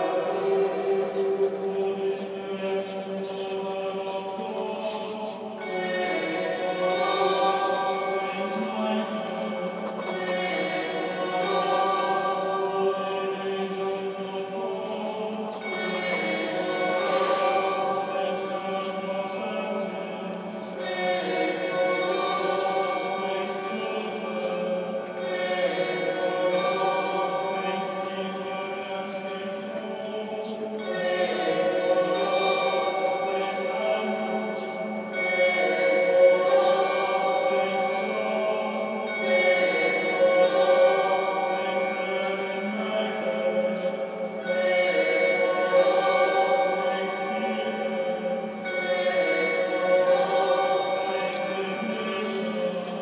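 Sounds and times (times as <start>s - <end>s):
choir chanting held notes: 0.0s - 53.0s.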